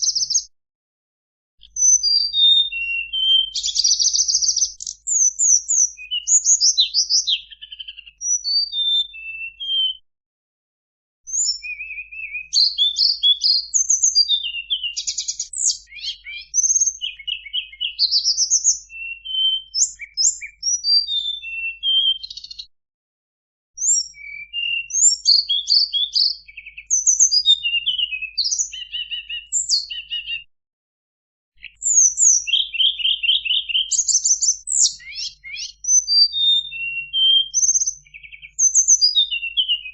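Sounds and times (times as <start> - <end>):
songbird singing: 0.0 - 0.5, 1.6 - 10.0, 11.3 - 22.7, 23.8 - 30.5, 31.6 - 39.9.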